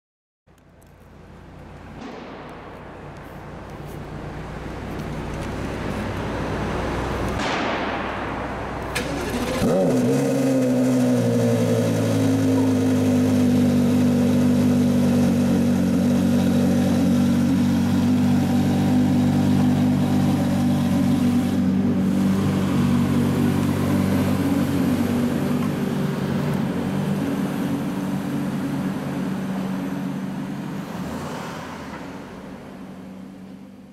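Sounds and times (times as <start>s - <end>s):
car engine idling: 0.5s - 30.9s
car engine starting: 0.6s - 33.9s.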